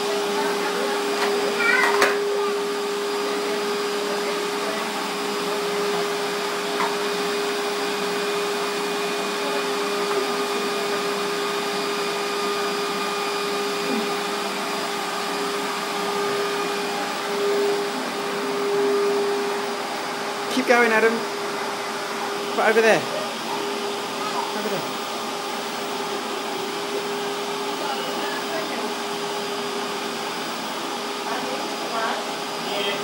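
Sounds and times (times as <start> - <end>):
vacuum cleaner whining: 0.0 - 33.0.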